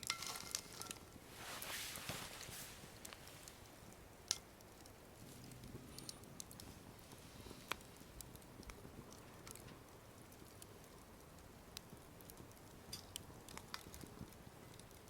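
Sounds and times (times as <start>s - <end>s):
frying over wood fire crackles: 0.0s - 15.0s.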